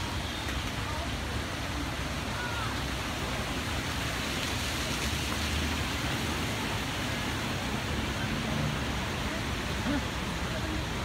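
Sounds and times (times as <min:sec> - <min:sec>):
outdoor ambient rush: 0:00.0 - 0:11.0.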